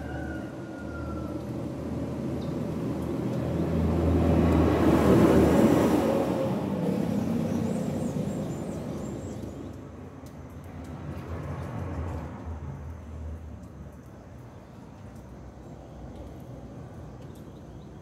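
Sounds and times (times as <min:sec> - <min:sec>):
motor vehicle passing by: 0:00.0 - 0:18.0.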